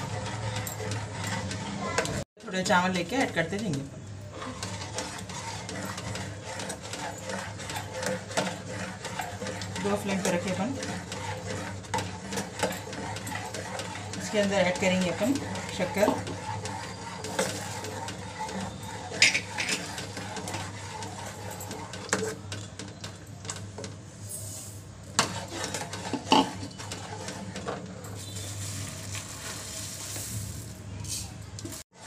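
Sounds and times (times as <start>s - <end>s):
metal ladle scraping pot: 0.0s - 23.2s, 23.8s - 31.8s.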